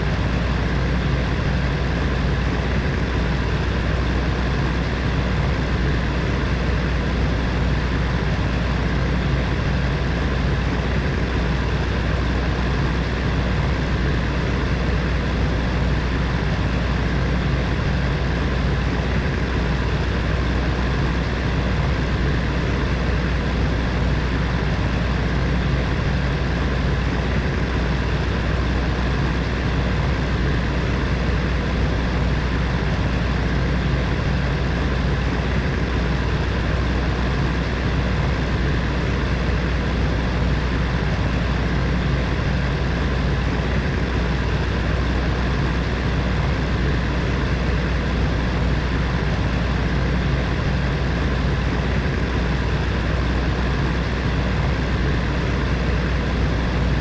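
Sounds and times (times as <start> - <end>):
heater fan running: 0.0 - 57.0.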